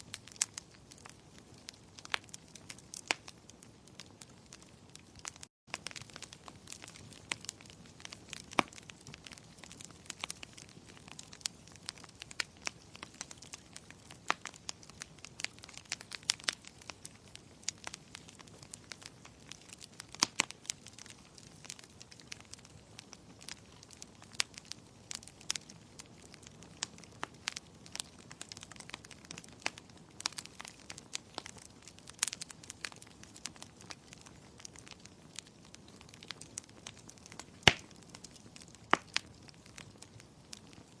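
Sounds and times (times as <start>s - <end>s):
firewood crackling and popping: 0.0s - 41.0s.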